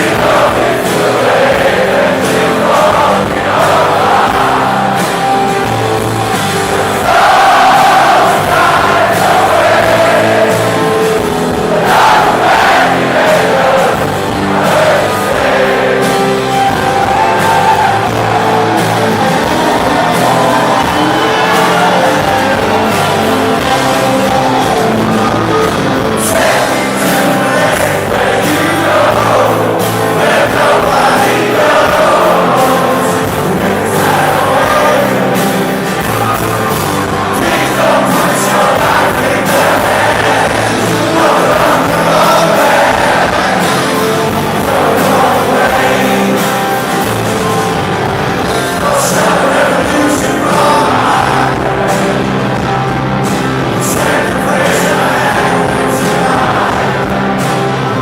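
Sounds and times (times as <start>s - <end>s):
audience voices: 0.0s - 58.0s
live rock band playing: 0.0s - 58.0s
person singing lead vocal: 0.0s - 58.0s.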